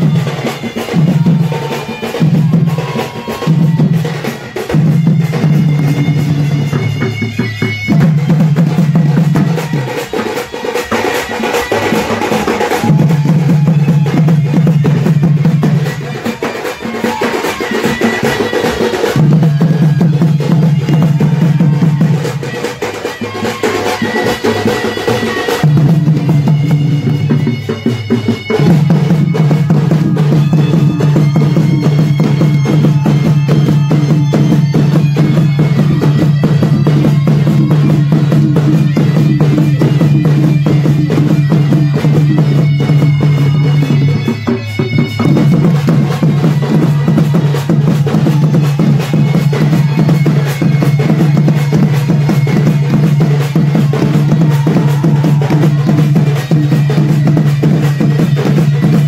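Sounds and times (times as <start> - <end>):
drums beaten with sticks: 0.0 - 59.0.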